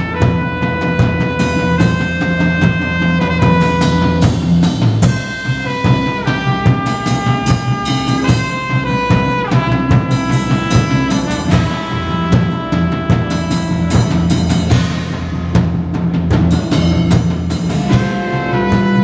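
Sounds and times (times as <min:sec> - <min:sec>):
trumpet playing held notes: 0:00.0 - 0:15.4, 0:16.7 - 0:19.0
drum kit: 0:00.0 - 0:19.0
live rock band: 0:00.0 - 0:19.0.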